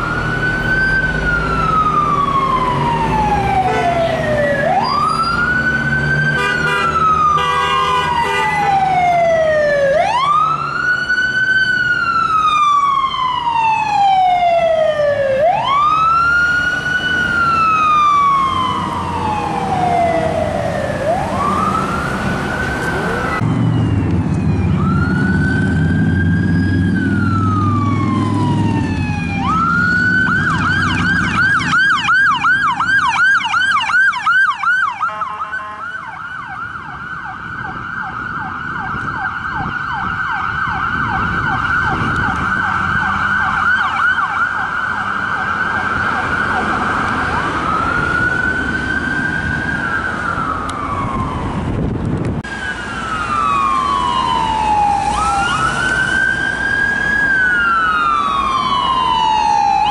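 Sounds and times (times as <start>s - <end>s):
electronic siren wailing and yelping: 0.0s - 7.4s, 8.0s - 51.7s, 52.5s - 59.9s
engine and road rumble: 0.0s - 59.9s.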